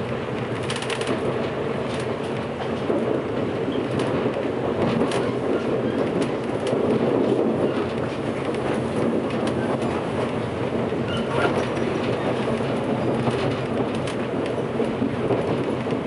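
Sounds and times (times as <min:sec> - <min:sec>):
train rumble: 0:00.0 - 0:16.0
wheels clicking over rail joints: 0:00.0 - 0:16.0.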